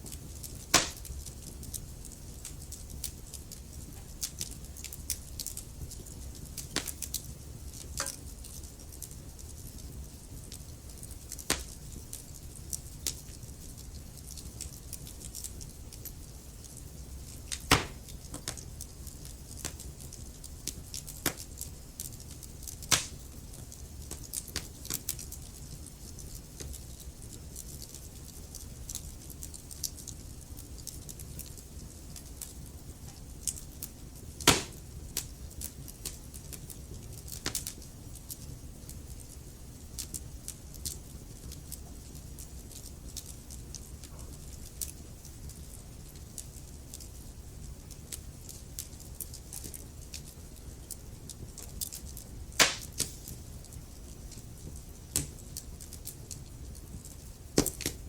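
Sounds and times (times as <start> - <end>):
fire pops: 0.0 - 30.1, 30.8 - 40.2, 50.9 - 58.0
wood fire crackling: 0.0 - 58.0.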